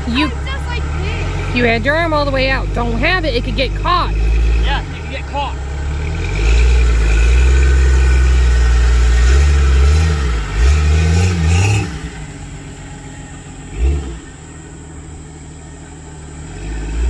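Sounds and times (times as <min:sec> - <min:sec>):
off-road engine revving: 0:00.0 - 0:17.0.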